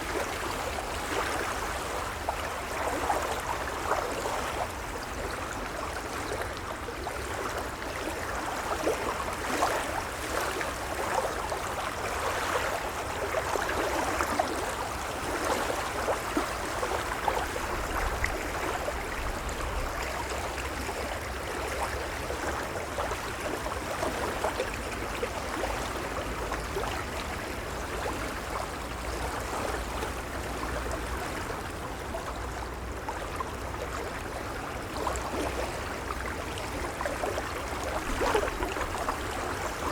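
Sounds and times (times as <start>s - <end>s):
gentle waves lapping: 0.0s - 39.9s.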